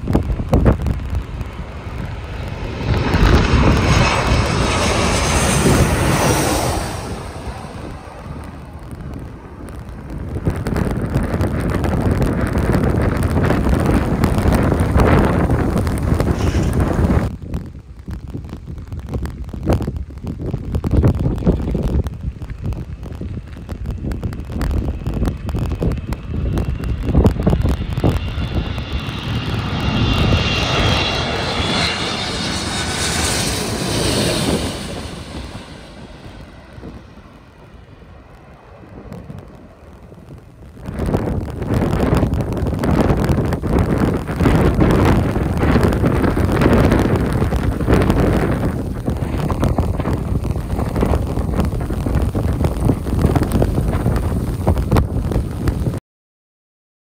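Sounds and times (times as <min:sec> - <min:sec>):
high jet fan whine: 0:00.0 - 0:56.0
jet plane passing overhead: 0:00.0 - 0:56.0
wind buffeting microphone: 0:00.0 - 0:56.0.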